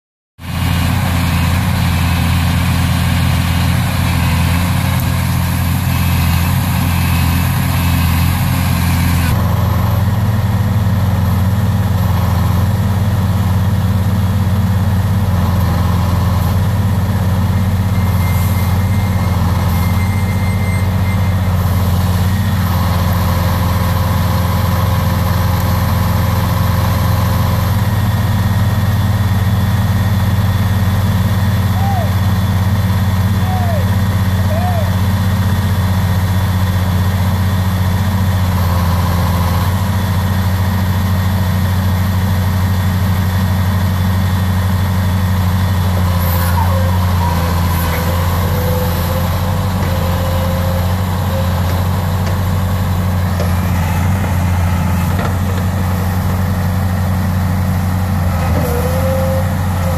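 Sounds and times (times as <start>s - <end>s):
heavy diesel engine running: 0.4s - 59.9s.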